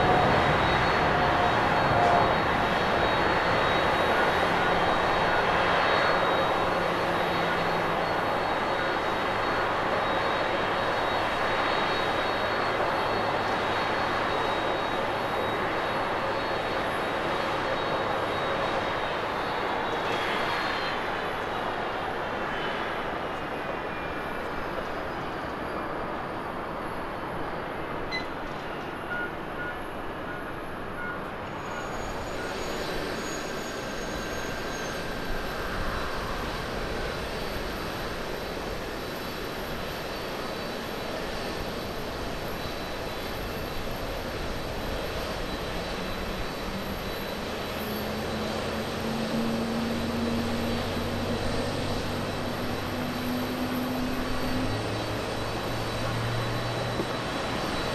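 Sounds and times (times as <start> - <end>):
jet climbing after takeoff: 0.0 - 57.9
jet engines at takeoff power: 0.0 - 57.9.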